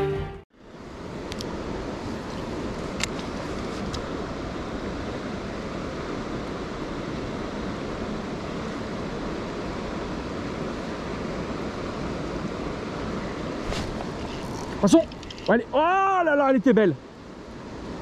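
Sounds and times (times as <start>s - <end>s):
river flowing: 0.0s - 18.0s
wind rumbling on microphone: 0.8s - 15.9s.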